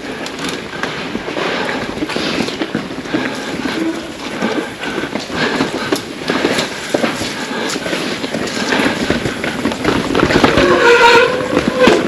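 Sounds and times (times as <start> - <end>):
bike rattling over bumps: 0.0 - 12.0
bike tyres rolling over dirt: 0.0 - 12.0.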